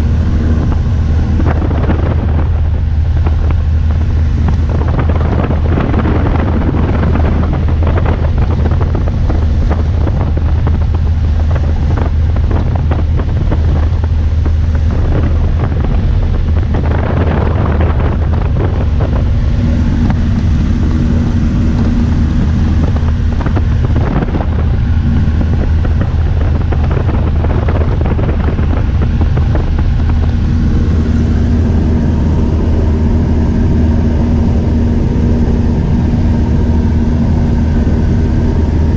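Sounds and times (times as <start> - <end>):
higher hum: 0.0 - 38.9
light aircraft engine droning: 0.0 - 38.9
wind buffeting microphone: 0.0 - 38.9.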